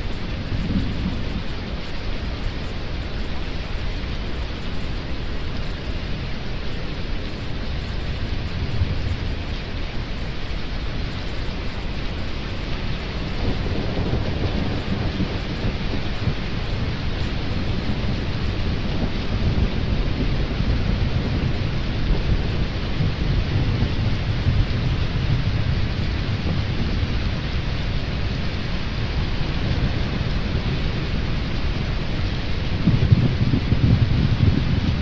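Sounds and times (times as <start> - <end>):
low rumble of thunder: 0.0 - 35.0
rain hiss: 0.0 - 35.0.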